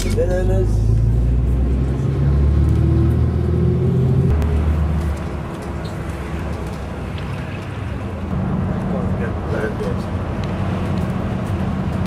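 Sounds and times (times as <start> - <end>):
road noise inside vehicle: 0.0 - 12.0
heavy truck engine drone: 0.5 - 12.0.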